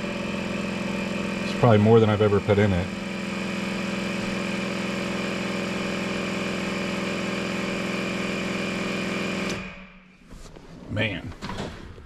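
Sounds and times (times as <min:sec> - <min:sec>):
electric air compressor humming: 0:00.0 - 0:10.2.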